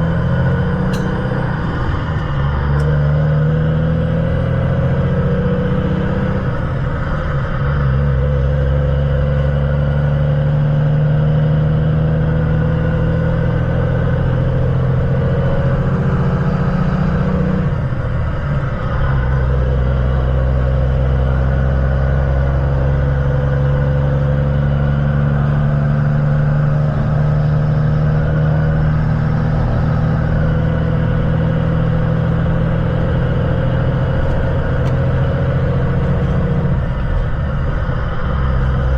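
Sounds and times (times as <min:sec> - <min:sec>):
truck diesel engine droning: 0:00.0 - 0:38.9.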